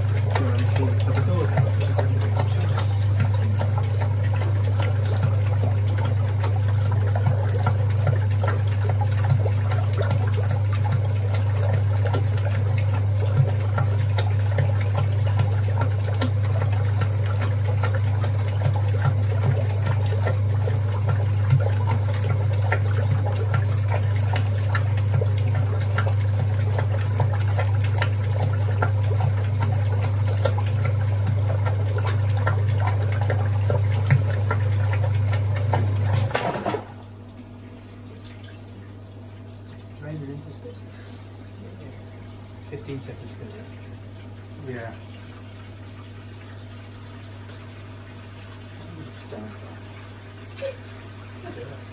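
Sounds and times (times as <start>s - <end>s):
washing machine low hum: 0.0s - 51.9s
water sloshing in washing machine: 0.0s - 51.9s.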